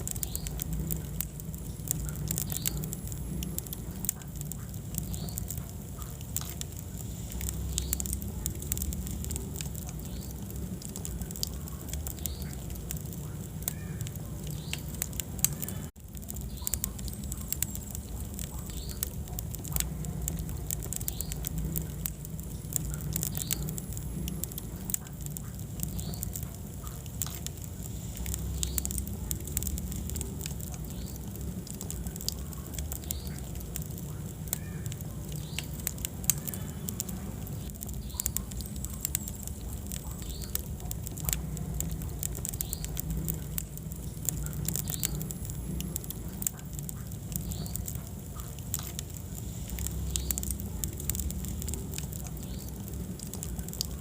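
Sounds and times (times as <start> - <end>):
high squeaks from burning wood: 0.0 - 53.9
fire flames rumbling: 0.0 - 54.0
wood crackling and popping: 0.0 - 54.0.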